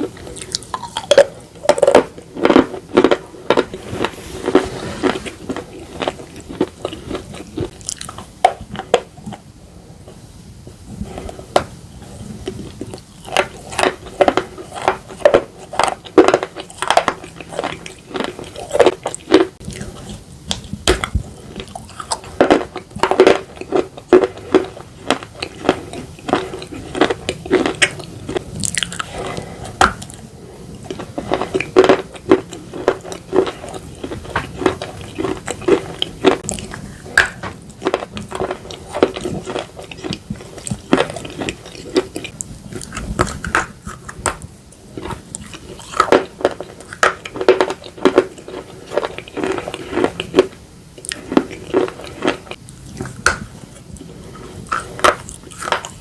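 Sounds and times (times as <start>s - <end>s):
crunchy biting and chewing: 0.0s - 9.5s, 11.0s - 56.0s.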